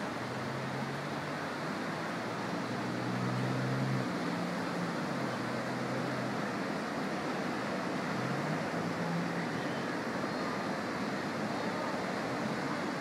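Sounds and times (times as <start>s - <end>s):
surf rushing: 0.0s - 13.0s
traffic engine hum: 0.0s - 13.0s.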